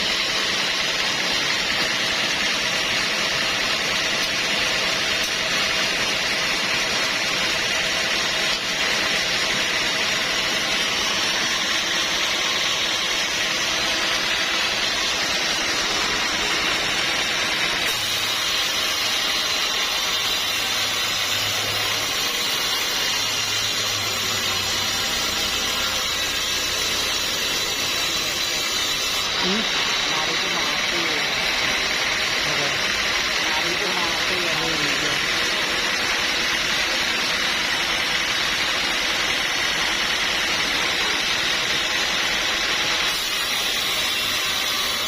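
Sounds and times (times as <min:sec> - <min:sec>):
sawmill machinery running: 0:00.0 - 0:45.0.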